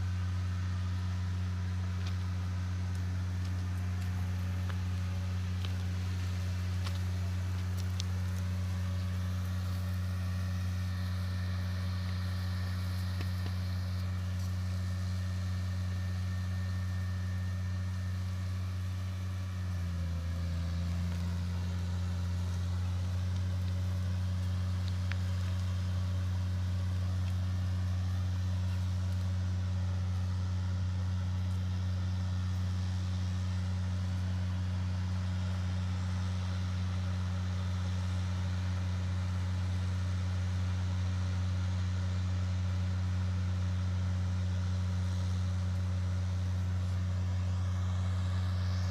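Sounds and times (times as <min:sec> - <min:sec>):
large diesel engine humming: 0:00.0 - 0:48.9.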